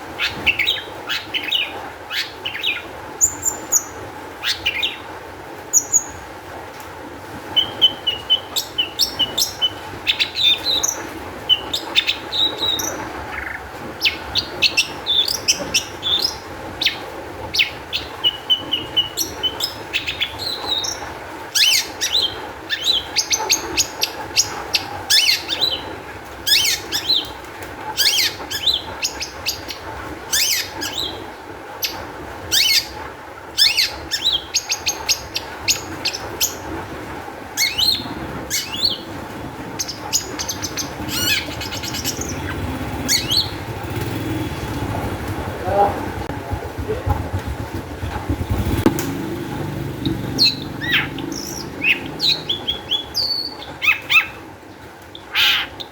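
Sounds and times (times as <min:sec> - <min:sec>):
bird singing rapid song: 0:00.2 - 0:05.1, 0:05.7 - 0:06.2, 0:07.6 - 0:27.4, 0:28.0 - 0:33.0, 0:33.6 - 0:36.7, 0:37.6 - 0:45.2, 0:48.0 - 0:54.5.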